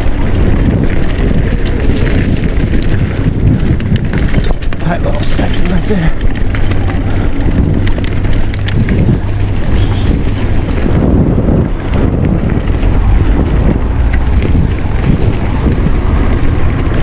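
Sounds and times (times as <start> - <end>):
bike rattles and clicks: 0.0 - 17.0
tyres rumbling on dirt: 0.0 - 17.0
wind buffeting microphone: 0.0 - 17.0.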